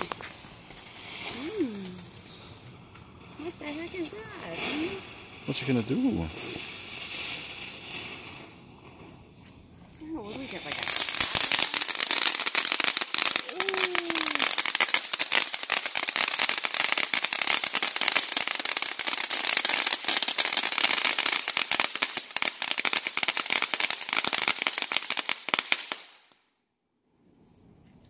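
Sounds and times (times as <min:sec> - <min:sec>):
firework crackling pops: 0:00.0 - 0:26.5.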